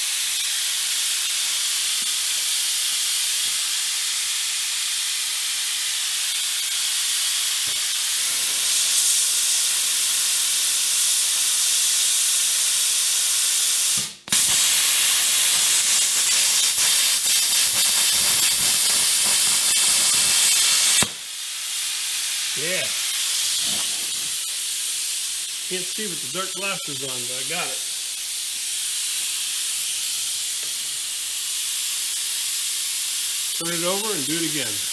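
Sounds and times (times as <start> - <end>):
plasma torch hissing: 0.0 - 34.9.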